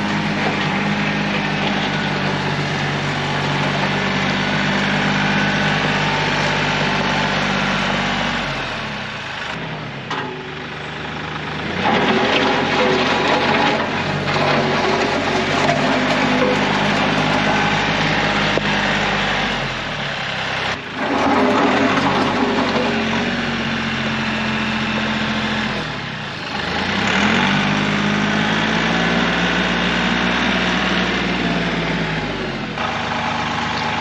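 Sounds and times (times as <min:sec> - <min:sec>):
diesel tractor engine running: 0:00.0 - 0:34.0.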